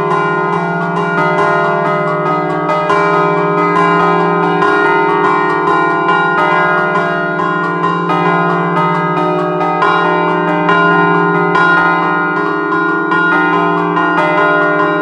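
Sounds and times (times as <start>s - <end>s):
church bells ringing rapidly: 0.0s - 15.0s.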